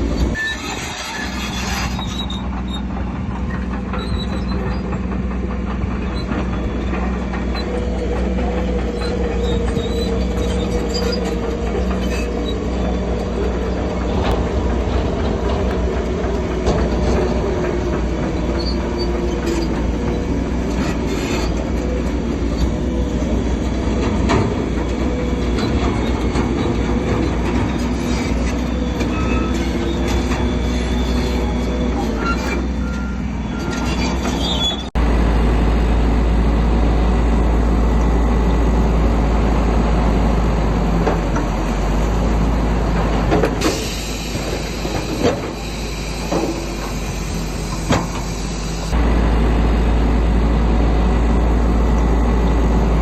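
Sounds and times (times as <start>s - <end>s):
steel tracks squealing and clanking: 0.0s - 35.6s, 36.2s - 53.0s
bulldozer diesel engine: 0.0s - 53.0s.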